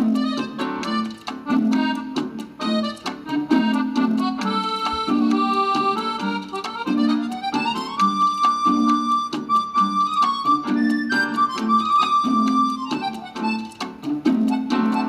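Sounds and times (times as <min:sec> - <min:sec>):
background music with beat and melody: 0:00.0 - 0:15.0.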